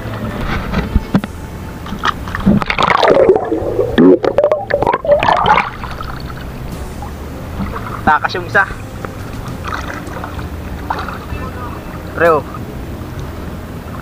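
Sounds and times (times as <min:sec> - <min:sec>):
water splashing and gurgling: 0:01.9 - 0:14.0.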